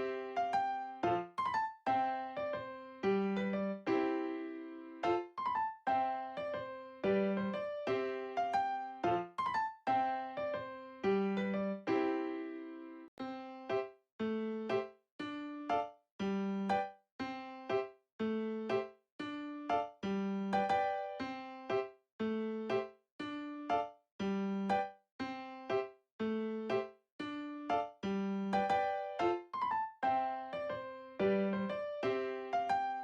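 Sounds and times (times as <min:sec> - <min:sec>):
bouncy keyboard melody: 0:00.0 - 0:33.0.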